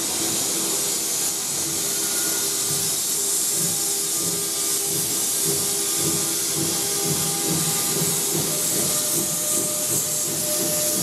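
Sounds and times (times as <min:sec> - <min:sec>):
locomotive steam hiss: 0:00.0 - 0:11.0.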